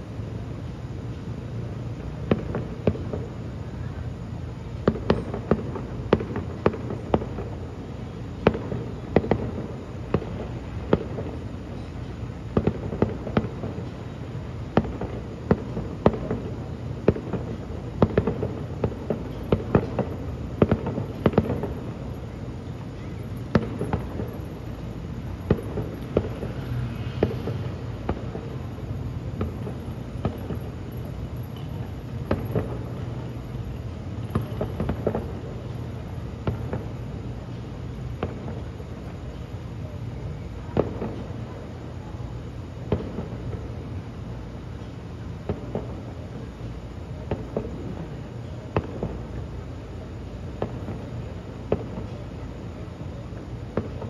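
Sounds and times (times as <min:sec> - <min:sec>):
fireworks bangs and pops: 0:02.2 - 0:03.5, 0:04.7 - 0:39.9, 0:40.6 - 0:41.6, 0:42.7 - 0:44.0, 0:45.4 - 0:46.4, 0:47.0 - 0:52.5, 0:53.3 - 0:54.0.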